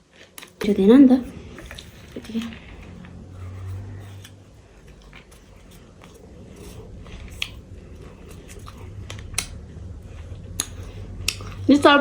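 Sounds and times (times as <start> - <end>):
chewing and crunching snack: 0.0 - 12.0.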